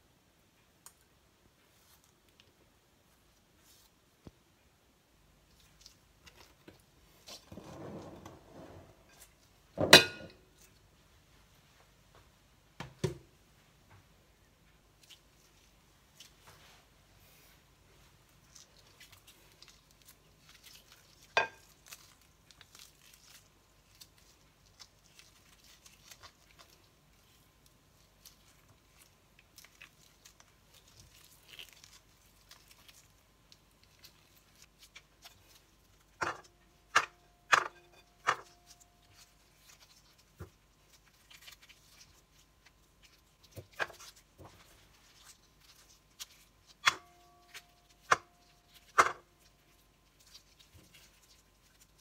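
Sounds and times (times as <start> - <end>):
wet handling and rustling: 5.4 - 9.8, 14.5 - 52.0.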